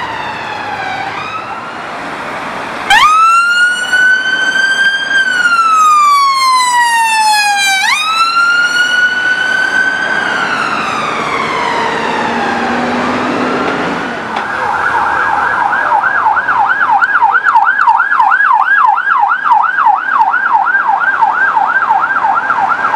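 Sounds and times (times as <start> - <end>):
police siren yelping: 0.0 - 1.9, 2.7 - 22.9
ambulance siren wailing: 0.0 - 22.9.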